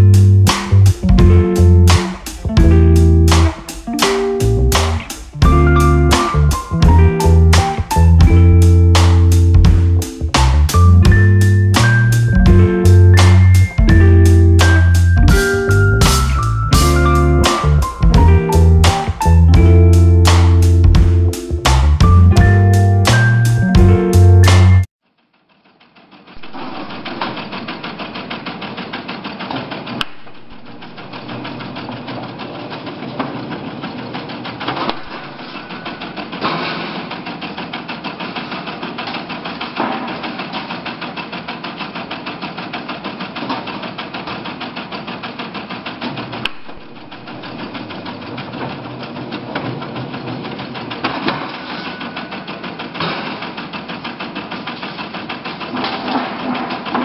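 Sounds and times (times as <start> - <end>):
machine mechanical clatter: 0.0 - 57.0.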